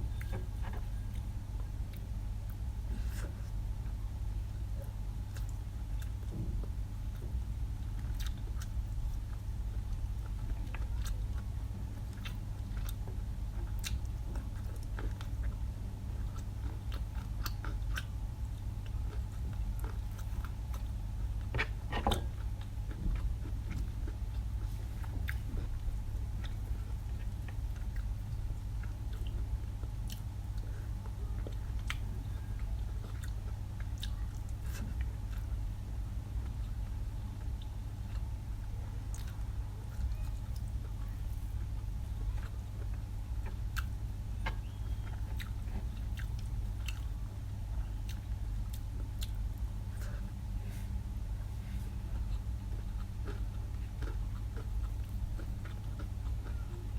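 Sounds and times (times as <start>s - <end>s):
steady low hum: 0.0s - 56.9s
person chewing crunchy food: 4.7s - 35.6s, 39.1s - 56.9s.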